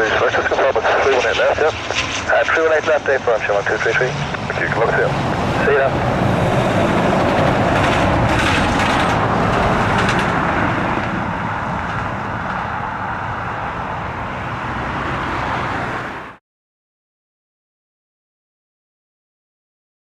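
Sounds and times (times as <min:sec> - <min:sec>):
jet engine rushing: 0:00.0 - 0:16.4.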